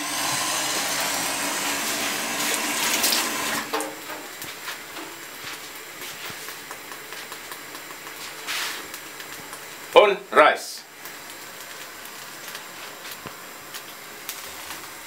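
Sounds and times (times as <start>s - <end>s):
water boiling and bubbling: 0.0s - 15.0s.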